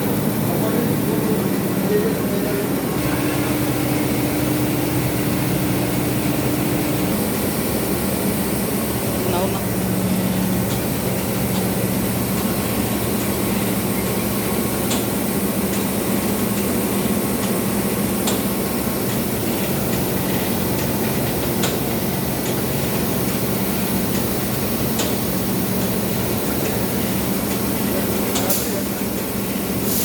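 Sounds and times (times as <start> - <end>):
machine humming: 0.0 - 29.8.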